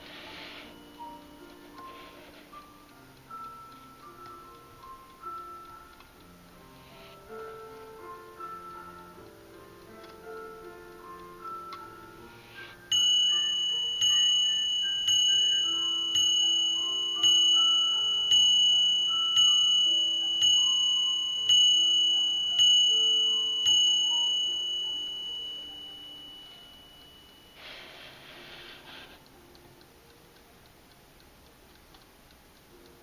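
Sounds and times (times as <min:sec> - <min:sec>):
mantel clock striking on bell: 0:00.0 - 0:29.2.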